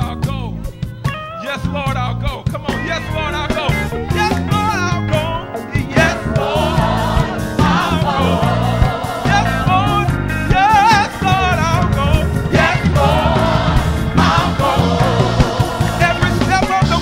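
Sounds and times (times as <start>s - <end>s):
gospel band playing: 0.0s - 17.0s.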